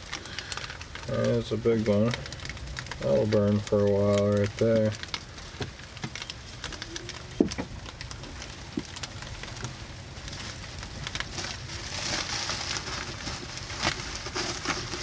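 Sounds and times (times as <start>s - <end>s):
rain pattering on cabin roof: 0.0s - 15.0s.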